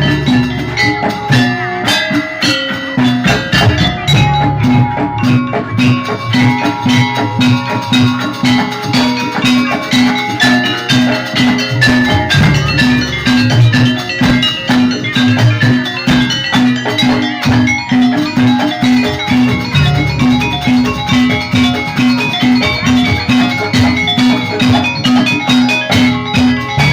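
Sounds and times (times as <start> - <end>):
hand drum strokes: 0.0 - 26.9
metallophones ringing: 0.0 - 26.9.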